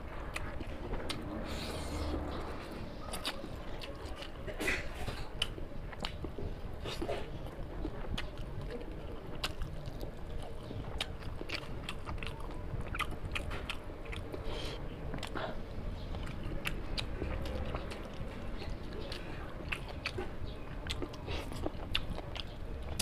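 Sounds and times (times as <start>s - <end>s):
person chewing and biting: 0.3s - 4.4s, 5.1s - 23.0s.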